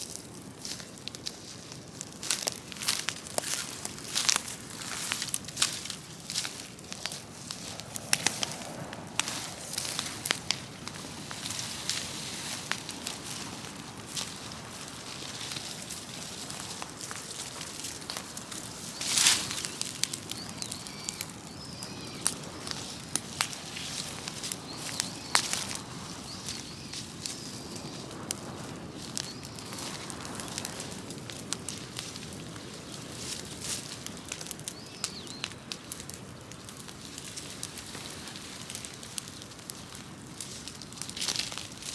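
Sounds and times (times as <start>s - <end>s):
bonfire crackling and popping: 0.0s - 41.9s.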